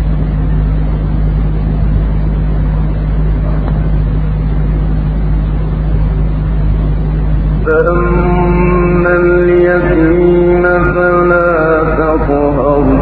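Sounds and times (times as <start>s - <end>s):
recording hum and hiss: 0.0s - 13.0s.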